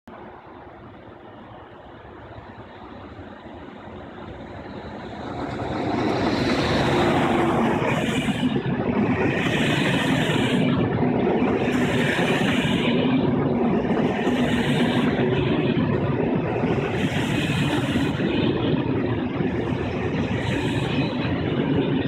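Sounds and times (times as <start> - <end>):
train wheels rumbling on rails: 0.1 - 22.0.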